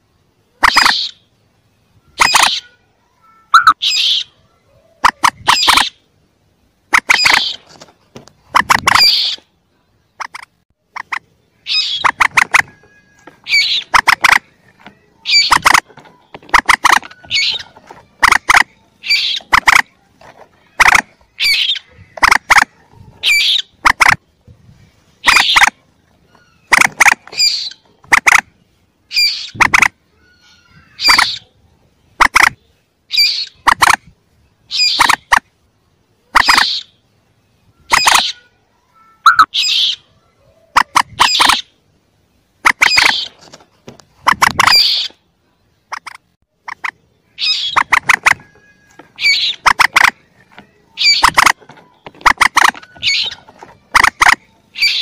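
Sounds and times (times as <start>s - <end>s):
moorhen chick calls: 0.5s - 1.4s, 2.0s - 2.8s, 3.5s - 6.1s, 6.9s - 9.5s, 10.1s - 24.4s, 25.1s - 35.5s, 36.2s - 37.1s, 37.7s - 38.5s, 39.2s - 41.8s, 42.5s - 55.0s.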